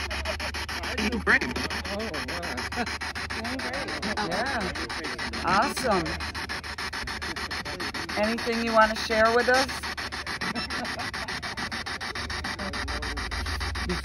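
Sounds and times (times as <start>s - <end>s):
garbled radio voice: 0.0s - 14.0s
radio static hiss: 0.0s - 14.0s
radio tone: 0.0s - 14.0s
rapid clicks: 0.0s - 14.0s.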